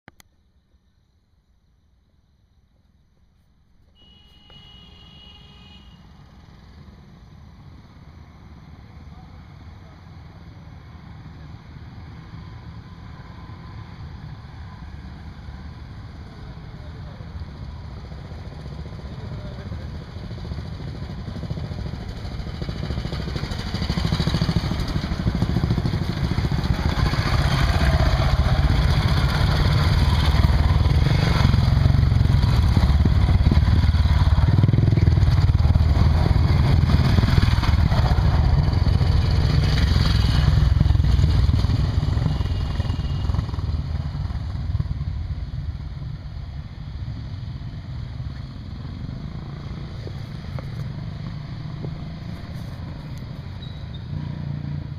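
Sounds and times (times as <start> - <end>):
motorcycles riding past: 9.2 - 54.9.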